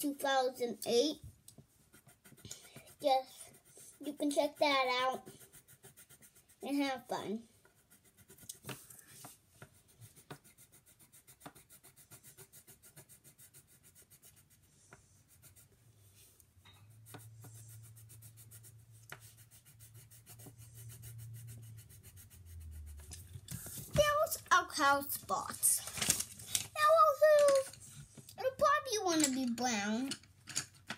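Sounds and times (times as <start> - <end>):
crayon coloring on paper: 1.8 - 15.7, 17.0 - 26.1, 26.7 - 30.0.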